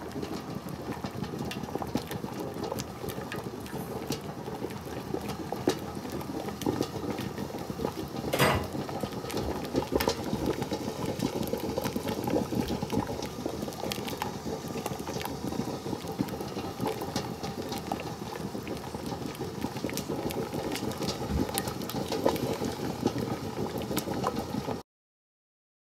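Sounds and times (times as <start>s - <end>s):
stew boiling and bubbling: 0.0s - 24.8s.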